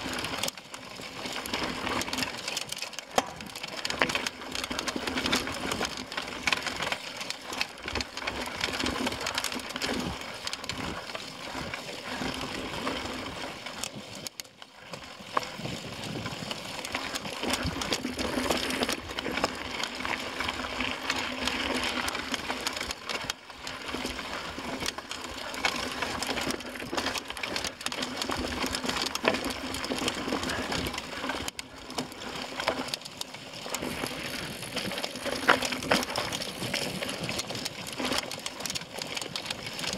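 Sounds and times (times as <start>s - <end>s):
bike rattling: 0.0s - 39.9s
bike tyres crunching on dirt: 0.0s - 39.9s.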